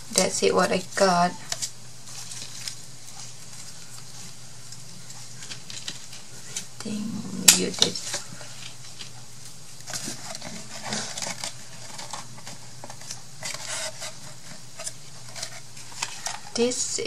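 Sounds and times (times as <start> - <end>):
faint steady hum: 0.0 - 17.0
craft materials rustling: 0.5 - 16.7.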